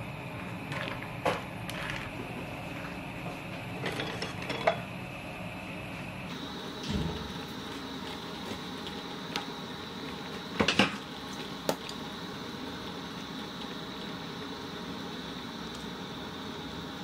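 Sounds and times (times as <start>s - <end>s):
broth boiling and bubbling: 0.0s - 17.0s.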